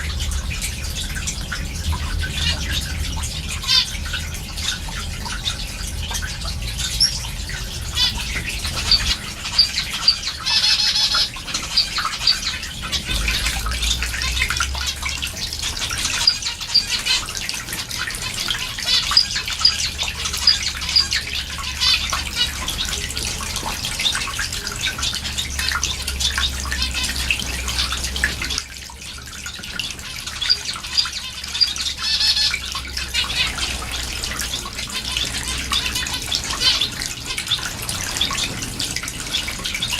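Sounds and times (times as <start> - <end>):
low steady hum: 0.0 - 39.9
finches chirping: 3.6 - 28.6, 29.8 - 39.9.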